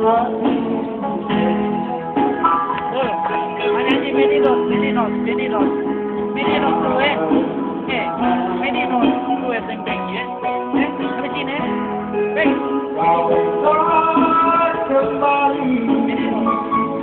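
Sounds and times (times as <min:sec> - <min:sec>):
live guitar music over speakers: 0:00.0 - 0:17.0.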